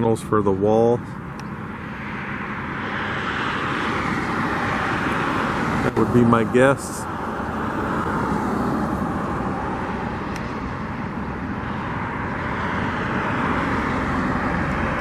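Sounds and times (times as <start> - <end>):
distant vehicles rumbling: 0.0 - 15.0.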